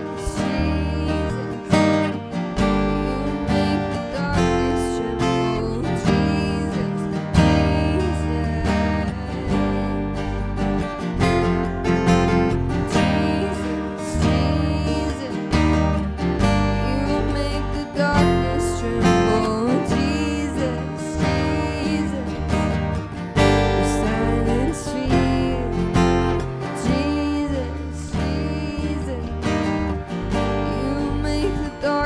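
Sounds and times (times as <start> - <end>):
strong bass: 0.0 - 32.0
strummed acoustic guitar: 0.0 - 32.0.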